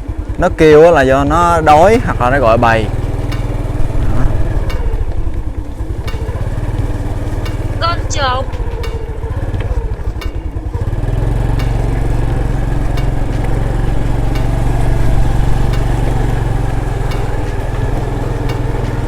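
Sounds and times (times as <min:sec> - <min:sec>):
small motorbike engine running: 0:00.0 - 0:19.0.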